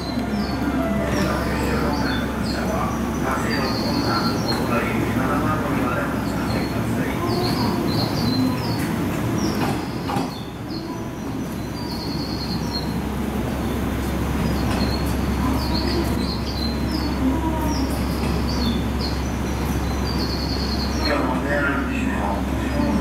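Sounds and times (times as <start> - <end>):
birds chirping: 0.0 - 23.0
train motors and wheels rumbling: 0.0 - 23.0.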